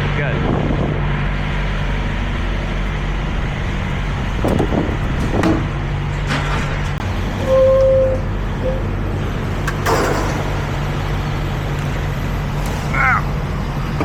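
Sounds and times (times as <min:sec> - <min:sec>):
truck diesel engine idling: 0:00.8 - 0:14.0.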